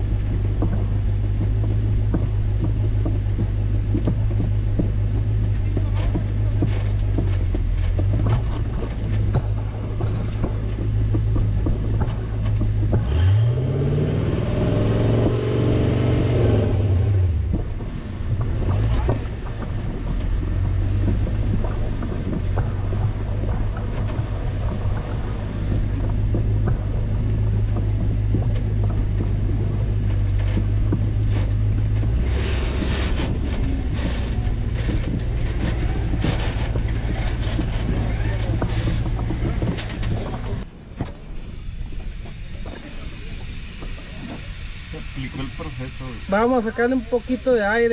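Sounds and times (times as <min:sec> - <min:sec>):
engine running at low revs: 0:00.0 - 0:47.9.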